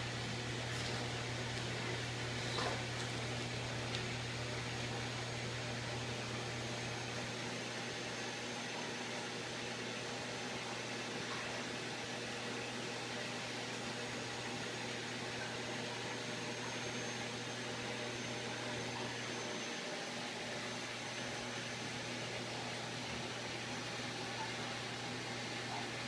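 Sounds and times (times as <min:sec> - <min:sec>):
aquarium pump hum and hiss: 0:00.0 - 0:26.0.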